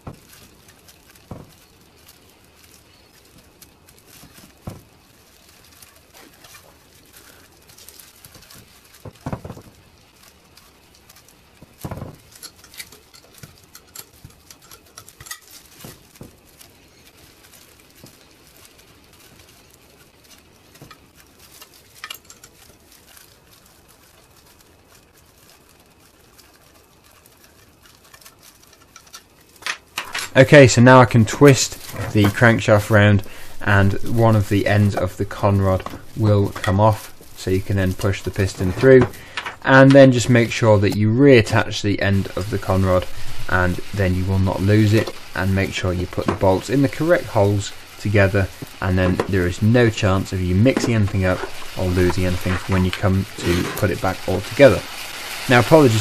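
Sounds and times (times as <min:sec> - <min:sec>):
rain pattering on a roof: 0:00.0 - 0:56.0.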